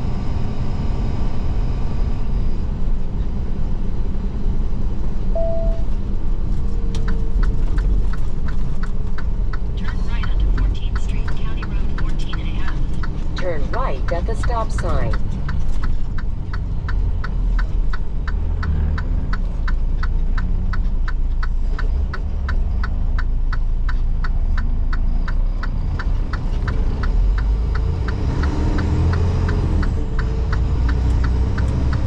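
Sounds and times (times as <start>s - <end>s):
diesel engine rumble: 0.0s - 32.0s
turn signal ticking: 5.4s - 32.0s.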